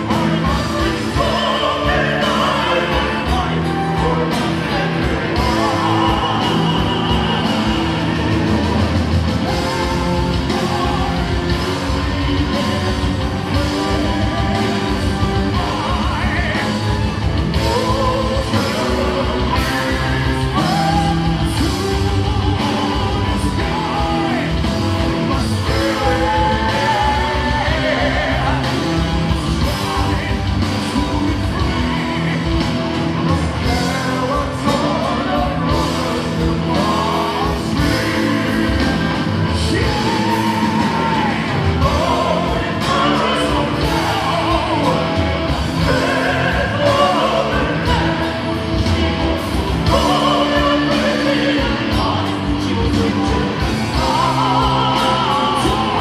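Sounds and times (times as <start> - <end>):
live heavy metal band: 0.0 - 56.0.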